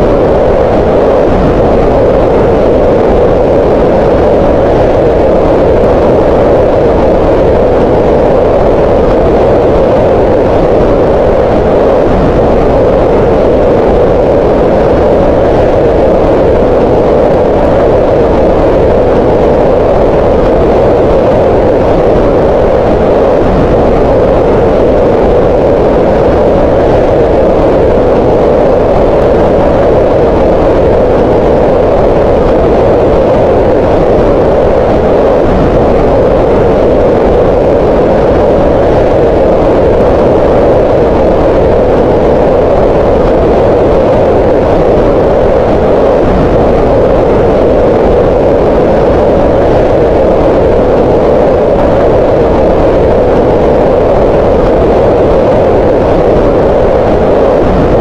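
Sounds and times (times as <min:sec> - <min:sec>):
green noise: 0:00.0 - 0:58.0.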